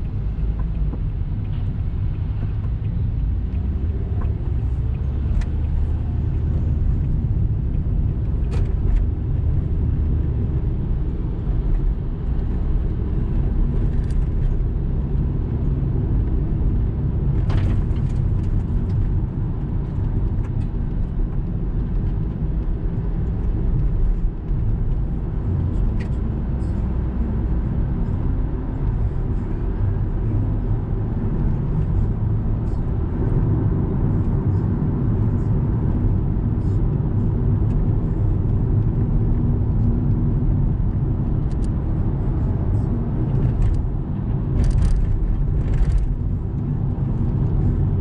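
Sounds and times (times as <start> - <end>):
car engine and tyre noise: 0.0 - 48.0.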